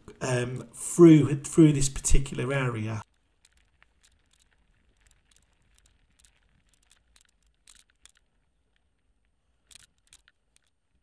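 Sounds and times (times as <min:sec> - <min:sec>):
soft clicks and crackles: 0:02.1 - 0:11.0.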